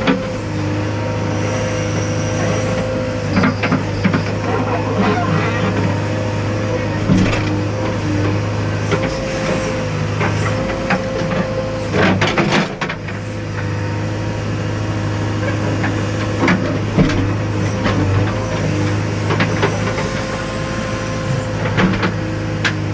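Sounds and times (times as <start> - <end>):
diesel engine under load: 0.0 - 22.9.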